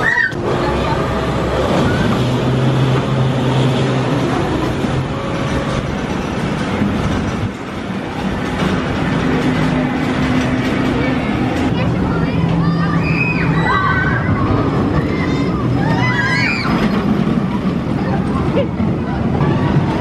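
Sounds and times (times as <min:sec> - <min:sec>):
roller coaster rumble and clatter: 0:00.0 - 0:20.0.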